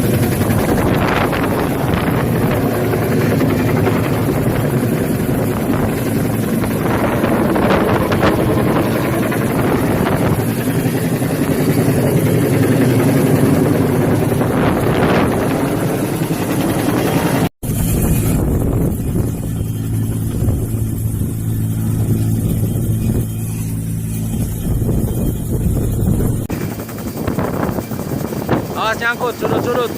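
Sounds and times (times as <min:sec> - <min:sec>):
helicopter engine and rotor: 0:00.0 - 0:29.9
wind buffeting microphone: 0:00.0 - 0:29.9.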